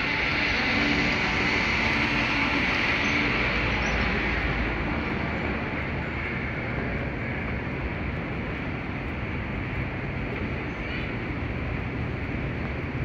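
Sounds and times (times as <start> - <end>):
rumbling hum of terminal hall: 0.0 - 13.0.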